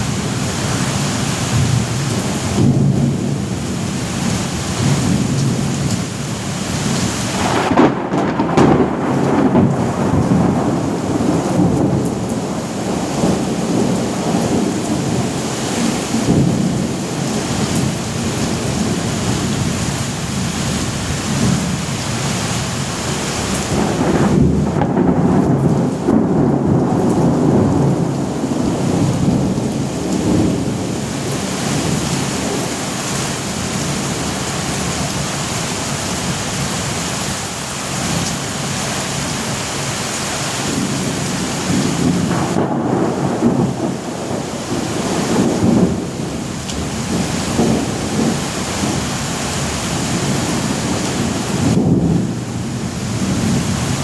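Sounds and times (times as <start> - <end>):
low rolling thunder: 0.0 - 36.9, 40.6 - 54.0
heavy rain: 0.0 - 54.0.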